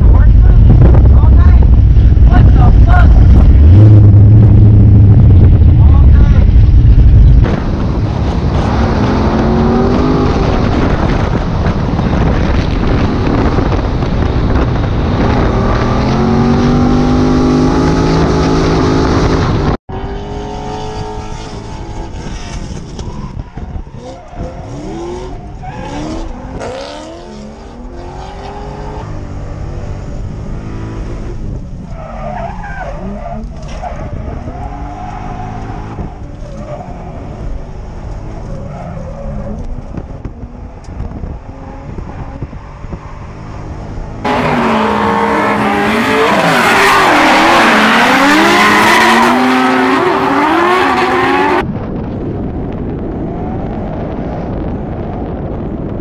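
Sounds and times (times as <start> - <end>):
car engine revving: 0.0 - 51.6.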